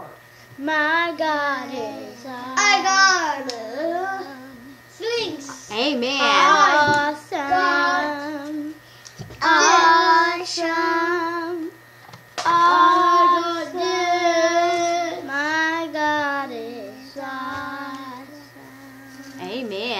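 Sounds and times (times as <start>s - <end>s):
child singing: 0.6s - 8.8s, 9.4s - 11.8s, 12.4s - 19.4s.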